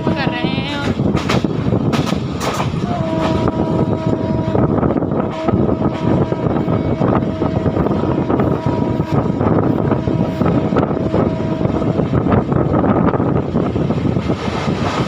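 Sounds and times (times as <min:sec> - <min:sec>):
train rumble and air rush: 0:00.0 - 0:15.0.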